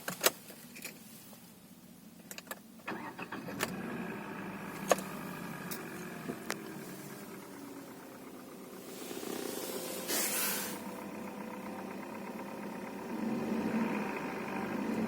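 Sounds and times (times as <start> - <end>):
car engine starting and idling: 2.2 - 15.0.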